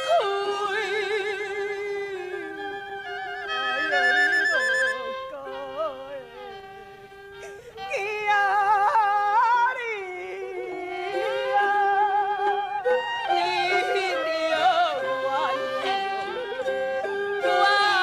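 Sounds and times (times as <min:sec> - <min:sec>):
instrumental accompaniment: 0:00.0 - 0:18.0
opera singing with wavering notes: 0:00.0 - 0:18.0.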